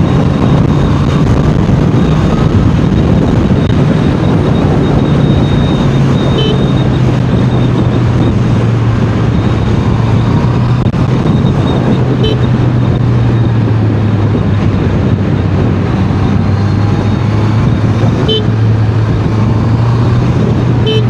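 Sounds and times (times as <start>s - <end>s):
motorcycle engine cruising: 0.0s - 21.0s
wind rush: 0.0s - 21.0s.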